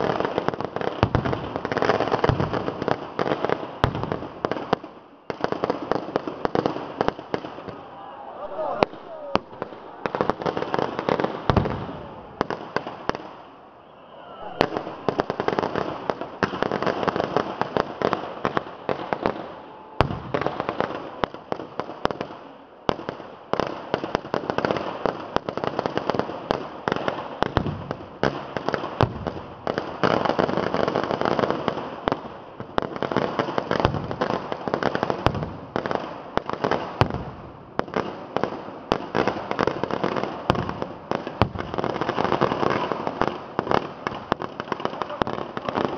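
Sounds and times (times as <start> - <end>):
fireworks crackling bangs: 0.0 - 45.9.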